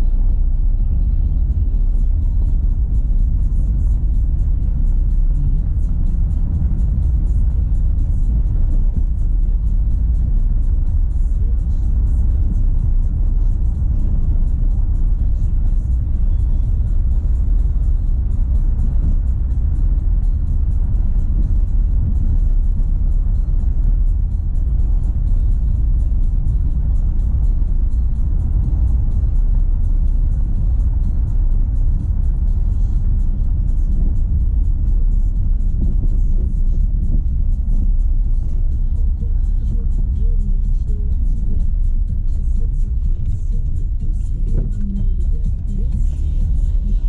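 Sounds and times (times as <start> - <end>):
music playing: 0.0 - 47.0
road and tyre rumble: 0.0 - 47.0.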